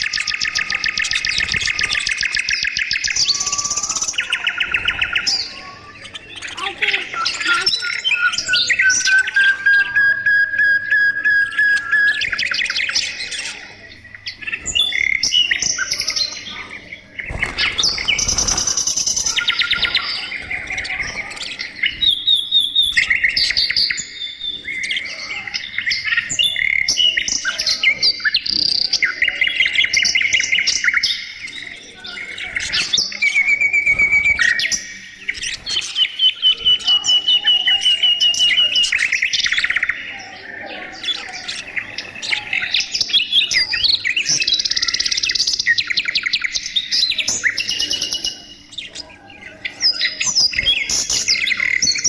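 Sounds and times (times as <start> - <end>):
budgerigars chirping and warbling: 0.0 - 52.0.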